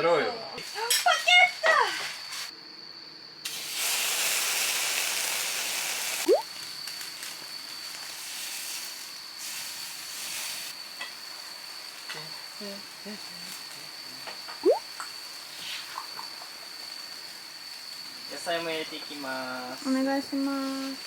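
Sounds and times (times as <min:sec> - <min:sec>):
beef sizzling on a hot grill: 0:00.6 - 0:02.5, 0:03.4 - 0:21.0.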